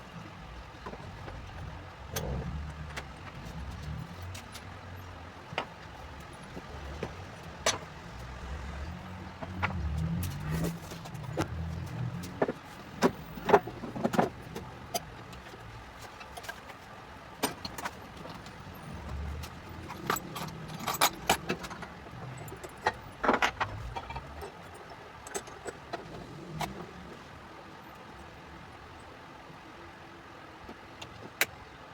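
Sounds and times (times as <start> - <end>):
wooden pieces and tools clicking: 0.2 - 27.3.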